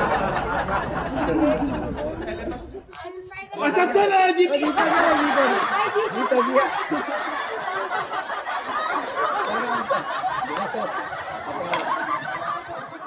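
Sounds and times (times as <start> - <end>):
children laughing: 0.0 - 3.0, 4.4 - 13.0
children talking: 0.0 - 13.0.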